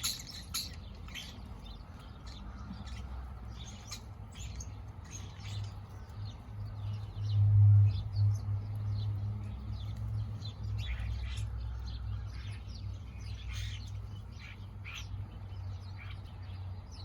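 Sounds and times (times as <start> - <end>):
blackbirds chirping: 0.0 - 17.0.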